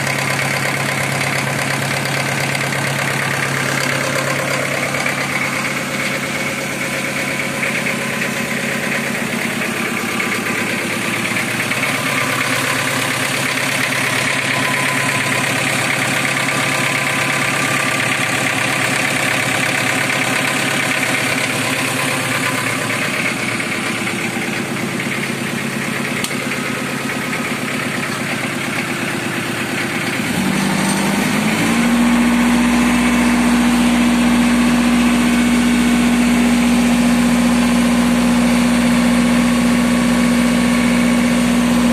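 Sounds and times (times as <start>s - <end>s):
diesel generator running: 0.0s - 41.9s.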